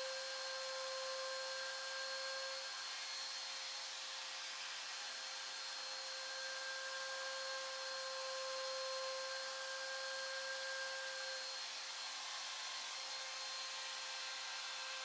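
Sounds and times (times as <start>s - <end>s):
router motor whining: 0.0s - 15.0s.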